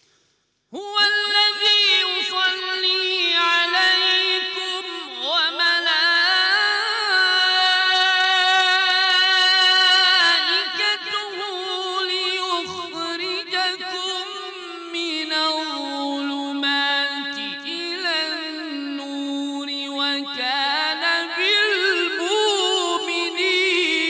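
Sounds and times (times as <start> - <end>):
man reciting melodically: 0.7 - 24.0.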